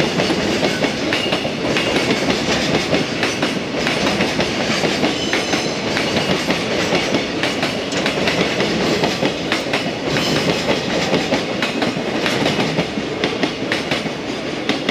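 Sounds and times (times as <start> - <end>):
freight train rolling past: 0.0 - 14.9
wheels clicking over rail joints: 0.2 - 14.9.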